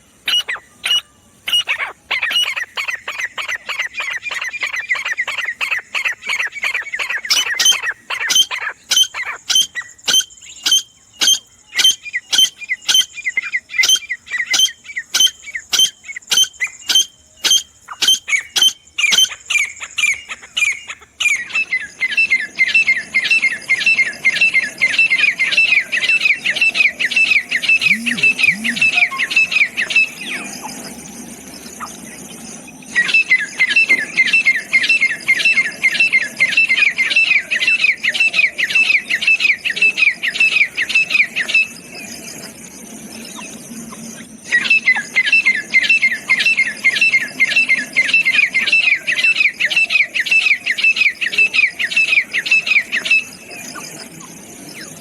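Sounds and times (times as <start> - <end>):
francolin calling: 0.0 - 55.0.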